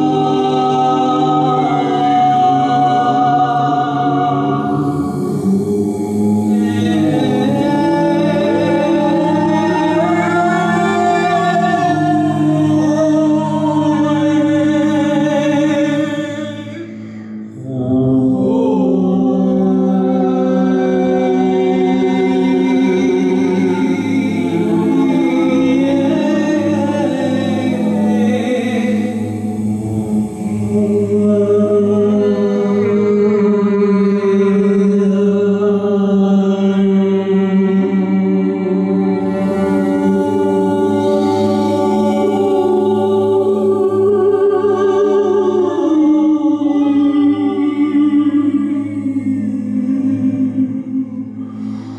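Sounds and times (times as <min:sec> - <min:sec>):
a cappella group singing: 0:00.0 - 0:51.9
steady low drone: 0:00.0 - 0:51.9.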